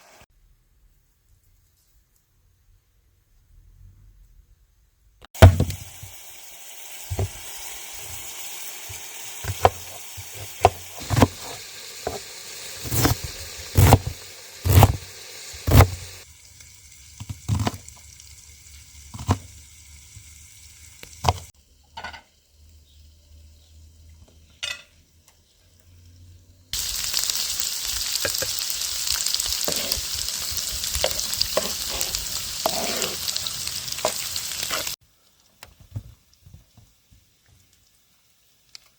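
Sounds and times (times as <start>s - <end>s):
food sizzling in a pan: 0.0s - 0.3s, 5.4s - 38.9s.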